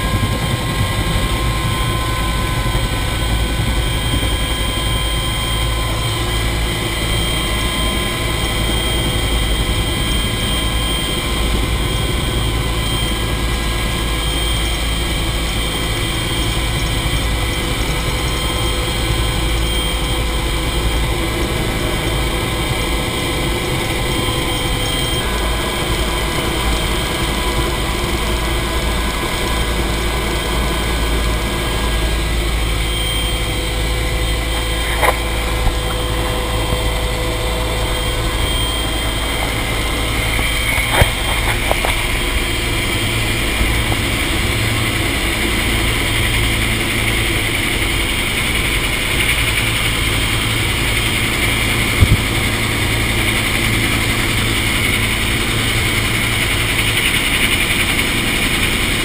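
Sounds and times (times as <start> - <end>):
helicopter engine and rotor rumble: 0.0 - 59.0
whining tones: 0.0 - 59.0.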